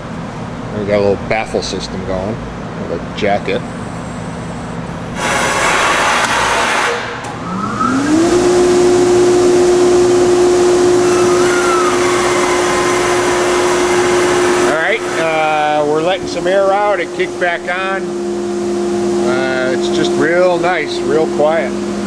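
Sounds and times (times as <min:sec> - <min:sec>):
air compressor motor running: 0:03.0 - 0:22.0.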